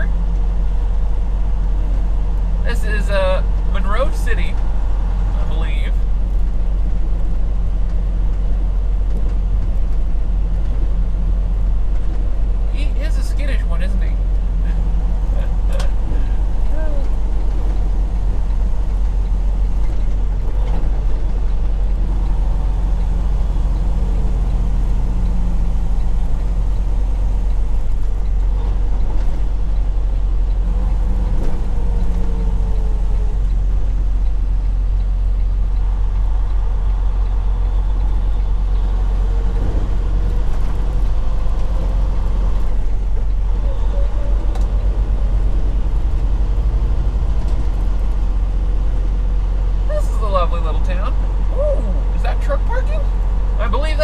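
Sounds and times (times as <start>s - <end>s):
truck engine drone in cab: 0.0s - 54.0s.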